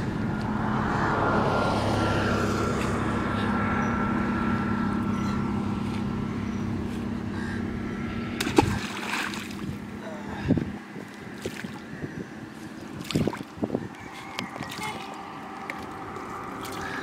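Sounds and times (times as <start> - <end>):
steady engine hum: 0.0 - 17.0.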